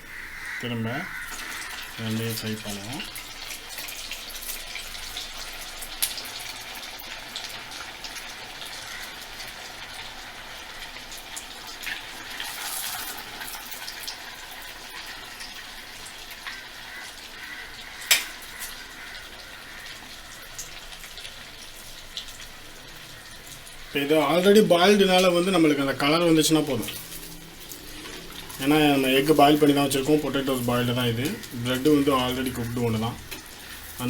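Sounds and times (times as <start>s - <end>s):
food sizzling in hot oil: 0.0s - 34.0s.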